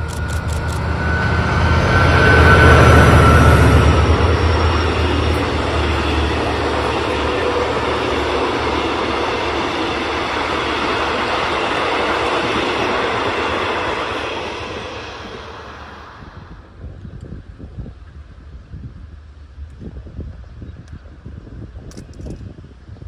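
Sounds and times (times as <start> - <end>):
train wheels on rails: 0.0 - 22.7
locomotive engine drone: 0.0 - 23.0.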